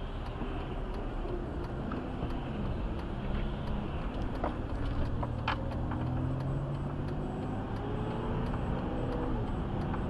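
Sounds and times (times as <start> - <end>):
car engine and tyre drone: 0.0 - 10.0.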